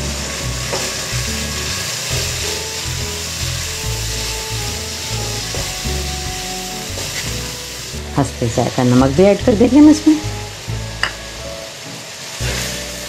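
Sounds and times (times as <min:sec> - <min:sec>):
background music: 0:00.0 - 0:13.0
sauce sizzling in hot oil: 0:00.0 - 0:13.0.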